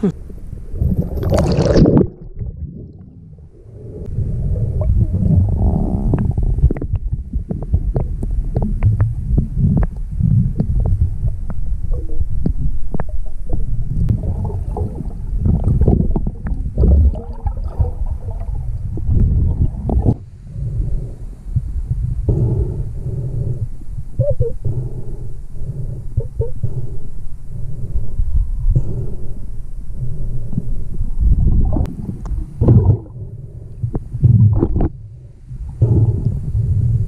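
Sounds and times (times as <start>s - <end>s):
underwater rumble of moving water: 0.0s - 37.0s.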